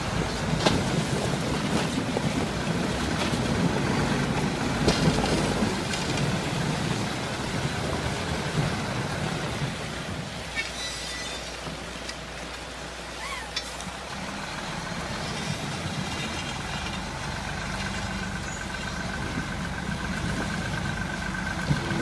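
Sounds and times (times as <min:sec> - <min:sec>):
truck diesel engine under load: 0:00.0 - 0:22.0
water splashing around wheels: 0:00.0 - 0:22.0.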